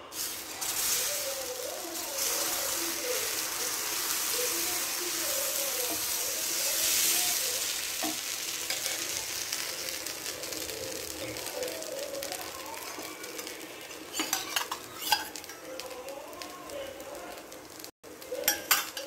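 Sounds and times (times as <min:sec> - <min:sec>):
batter sizzling on hot pan: 0:00.0 - 0:19.0.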